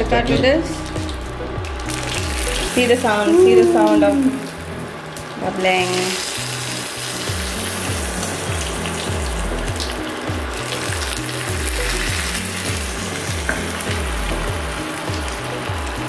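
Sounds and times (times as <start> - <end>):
oil sizzling and crackling: 0.6 - 16.0.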